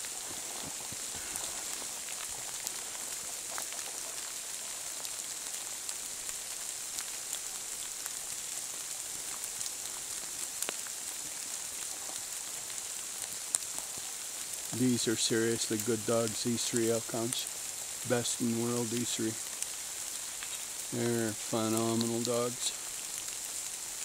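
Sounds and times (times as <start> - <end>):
rain hissing through trees: 0.0 - 24.0
raindrops ticking: 0.0 - 24.0.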